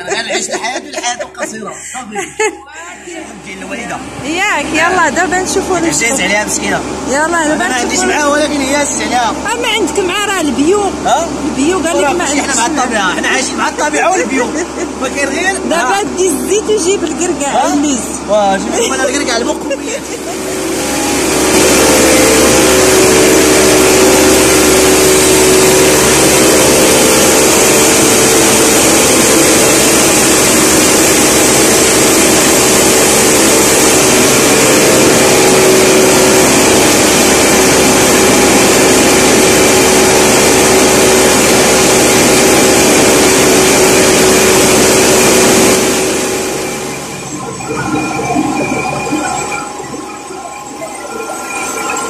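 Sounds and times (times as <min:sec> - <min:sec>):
machinery droning: 0:02.9 - 0:52.0.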